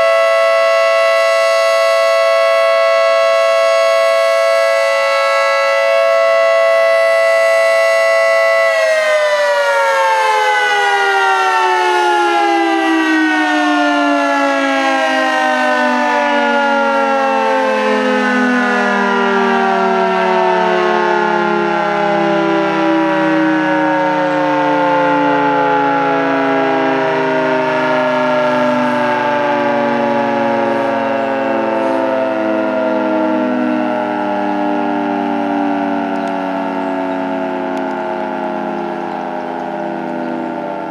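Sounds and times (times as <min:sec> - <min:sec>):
siren two-note chord: 0:00.0 - 0:40.9.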